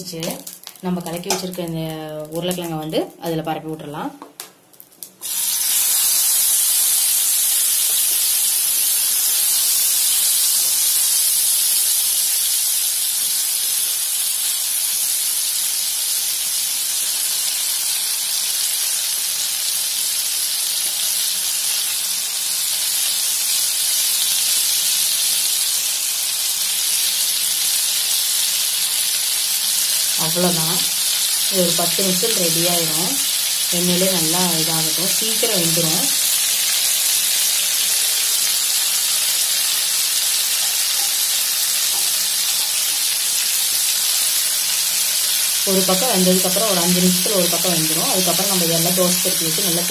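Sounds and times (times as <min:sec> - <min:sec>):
potatoes sizzling in hot oil: 0:00.0 - 0:03.4, 0:04.4 - 0:49.9.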